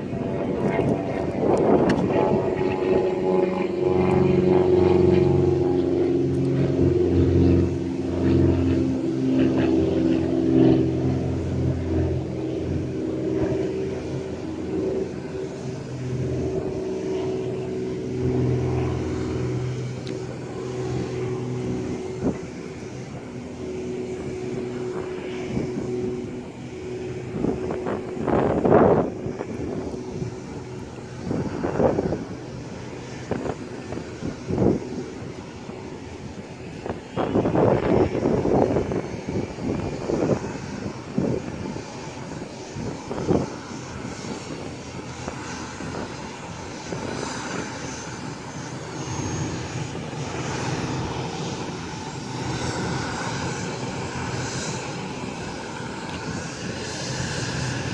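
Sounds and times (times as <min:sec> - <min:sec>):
jet engine hum: 0:00.0 - 0:57.9.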